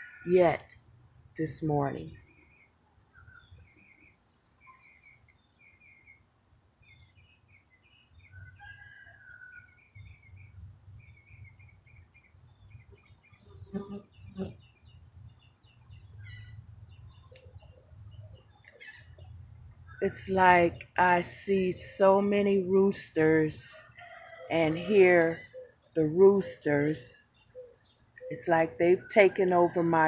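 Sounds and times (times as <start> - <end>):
small birds chirping: 1.8 - 29.3.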